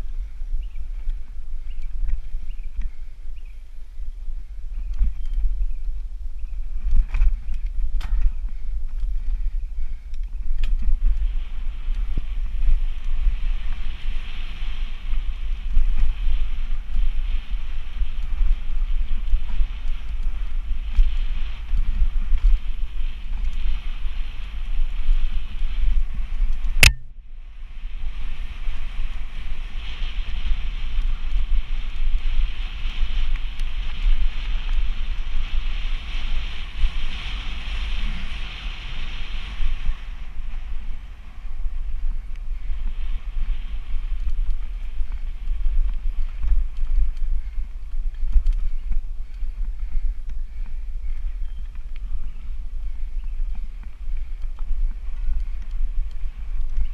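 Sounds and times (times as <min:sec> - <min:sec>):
tyres rolling on dirt trail: 0:00.0 - 0:56.9
wind buffeting microphone: 0:00.0 - 0:56.9
faint ticks: 0:00.6 - 0:03.6, 0:04.7 - 0:27.1, 0:28.0 - 0:56.9.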